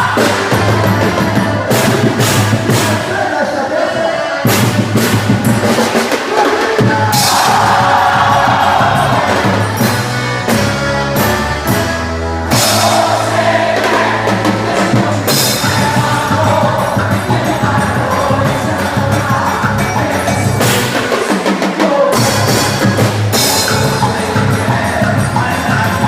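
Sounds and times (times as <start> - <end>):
loud drum kit music: 0.0 - 26.0.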